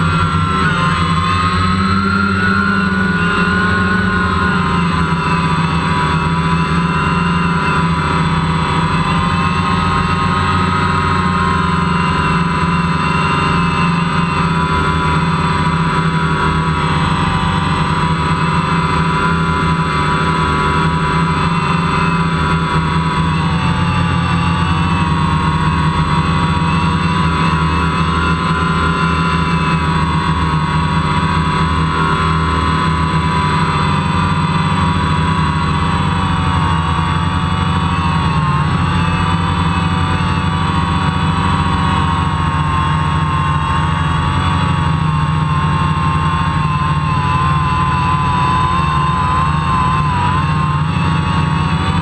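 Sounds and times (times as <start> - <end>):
drone propellers whirring: 0.0 - 52.0.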